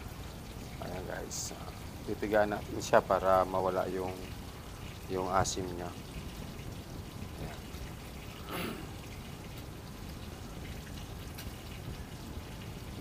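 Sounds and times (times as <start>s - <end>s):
juice dripping and trickling: 0.0s - 13.0s.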